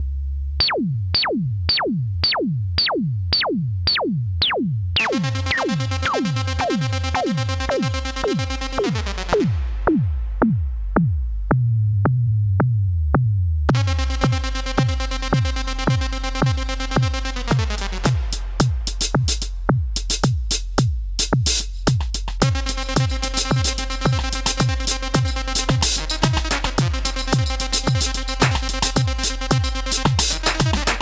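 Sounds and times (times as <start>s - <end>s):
sustained buzzy synth tone: 0.6s - 11.0s, 13.7s - 20.0s, 22.4s - 31.0s
synthesizer notes sweeping down: 0.6s - 11.6s, 13.7s - 20.0s, 22.4s - 31.0s
low bass drone: 5.0s - 31.0s.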